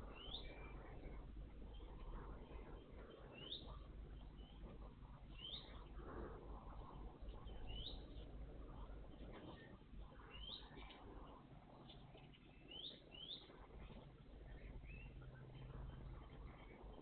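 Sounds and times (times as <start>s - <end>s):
small songbird calling: 0.0s - 17.0s.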